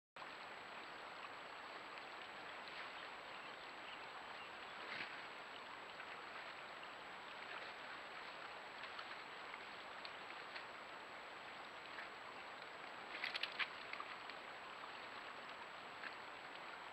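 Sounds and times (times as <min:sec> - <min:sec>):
moose wading splashes: 0:00.8 - 0:16.9.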